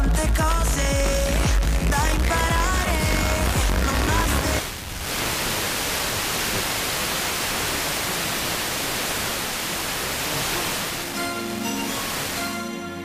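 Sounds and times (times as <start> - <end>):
radio receiver static hiss: 2.3 - 12.8.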